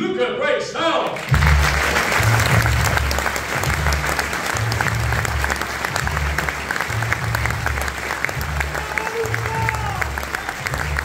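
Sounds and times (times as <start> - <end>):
audience applauding: 1.2 - 11.0
loud music with heavy bass: 1.3 - 11.0.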